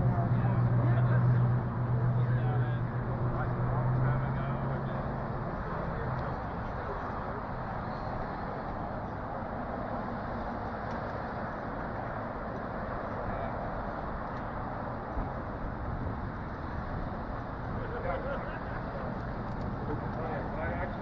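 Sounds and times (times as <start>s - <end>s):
outdoor background rush: 0.0s - 21.0s.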